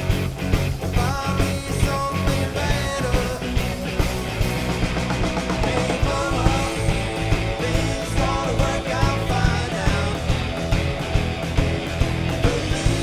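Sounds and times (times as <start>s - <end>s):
drum kit beat: 0.0s - 13.0s
electric bass: 0.0s - 13.0s
electric guitars: 0.0s - 13.0s.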